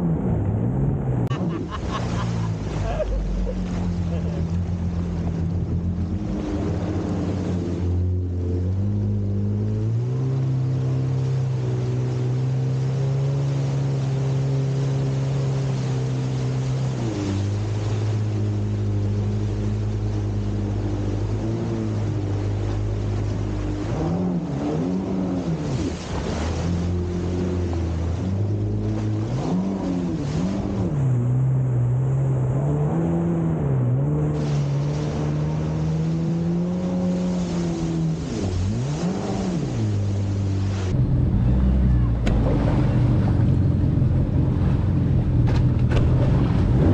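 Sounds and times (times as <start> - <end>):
jet ski engine running: 0.0 - 46.9
water rushing: 0.0 - 46.9.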